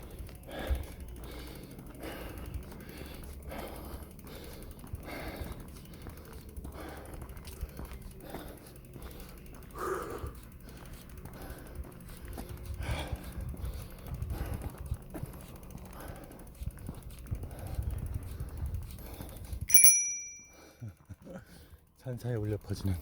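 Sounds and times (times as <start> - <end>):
man breathing heavily: 0.0 - 19.7, 20.3 - 22.0.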